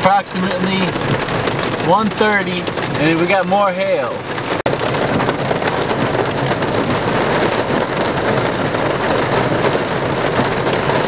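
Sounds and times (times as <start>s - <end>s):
hail and rain pattering: 0.0s - 11.0s.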